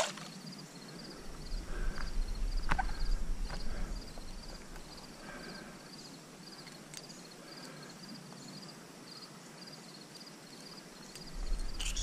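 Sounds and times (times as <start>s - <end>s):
background hiss: 0.0s - 12.0s
cricket chirping: 0.0s - 12.0s.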